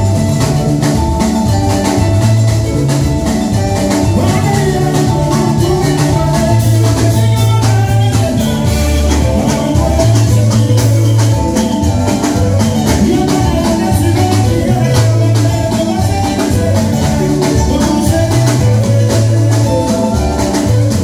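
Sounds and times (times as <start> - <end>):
congas: 0.0 - 21.0
drum kit: 0.0 - 21.0
electric guitars: 0.0 - 21.0
repeating bass line: 0.0 - 21.0.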